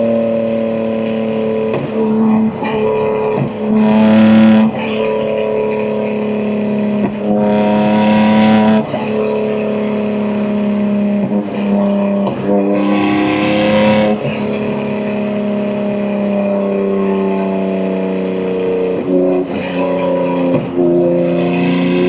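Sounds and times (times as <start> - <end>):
car exhaust drone: 0.0 - 22.0.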